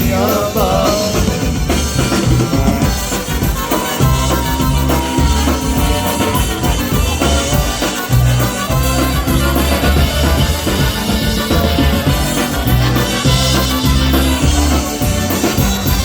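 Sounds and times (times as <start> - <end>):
bass and drums beat: 0.0 - 16.0
polka band playing: 0.0 - 16.0.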